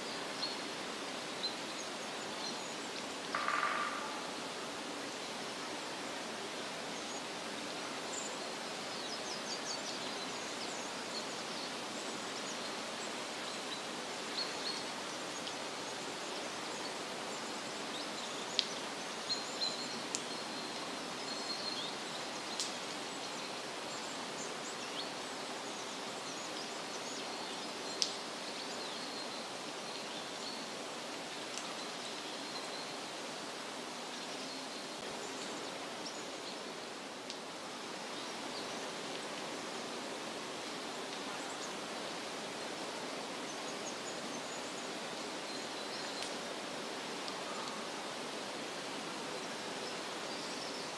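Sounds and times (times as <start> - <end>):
rushing hiss of wind or water: 0.0 - 50.9.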